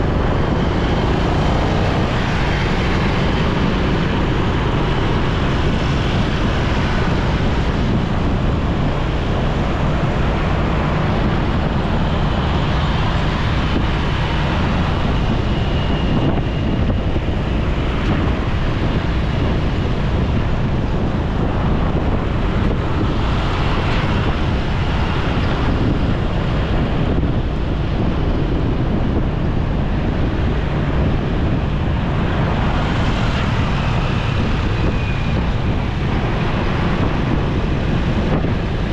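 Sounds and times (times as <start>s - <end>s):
motorcycle engine and road noise: 0.0s - 38.9s
wind rush on microphone: 0.0s - 38.9s.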